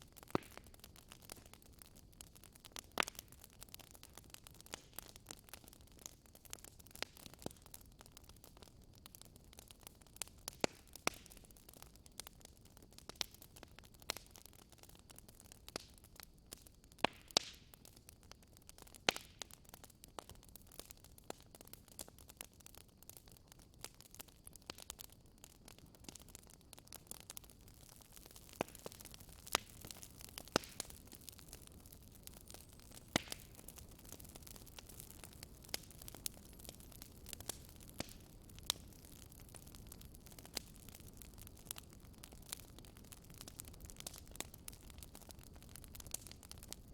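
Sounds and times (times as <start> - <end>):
soft steady fire hiss: 0.0 - 46.9
wood fire crackling and popping: 0.0 - 46.9.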